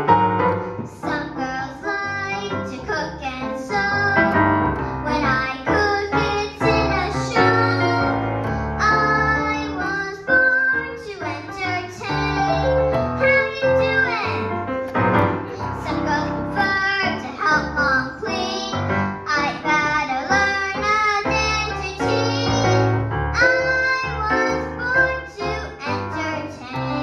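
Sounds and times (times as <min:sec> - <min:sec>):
piano accompaniment: 0:00.0 - 0:27.0
girl singing into microphone: 0:00.8 - 0:14.6, 0:15.5 - 0:27.0.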